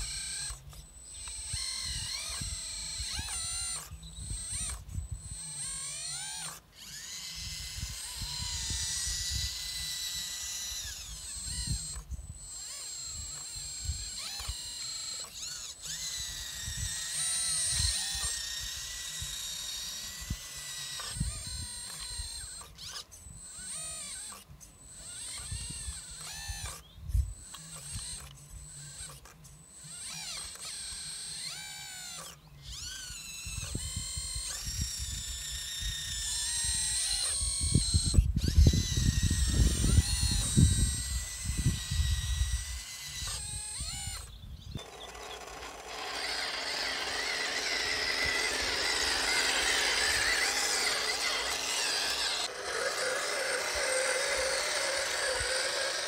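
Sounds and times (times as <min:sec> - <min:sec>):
hydraulic pump whining: 0:00.0 - 0:56.0.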